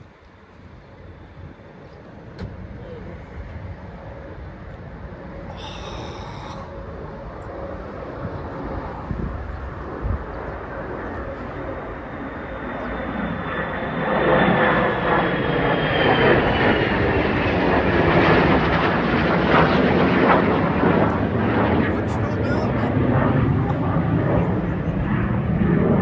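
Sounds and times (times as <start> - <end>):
fighter jet flying past: 1.1 - 26.0.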